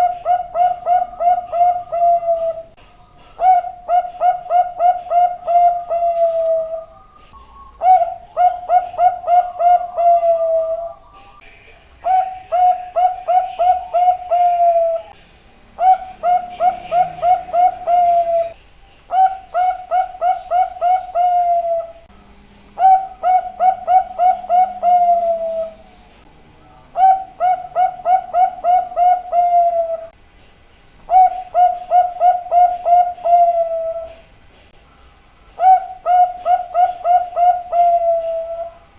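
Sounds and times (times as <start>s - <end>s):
dove cooing: 0.0s - 11.4s, 12.0s - 15.2s, 15.8s - 22.1s, 22.8s - 25.9s, 26.7s - 30.2s, 31.1s - 34.3s, 35.6s - 38.9s.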